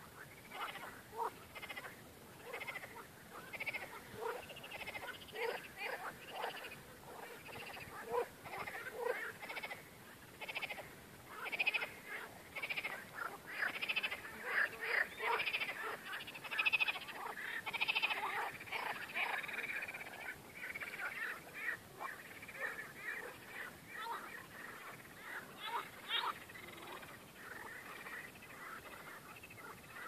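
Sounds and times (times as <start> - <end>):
frogs croaking: 0.0 - 30.0.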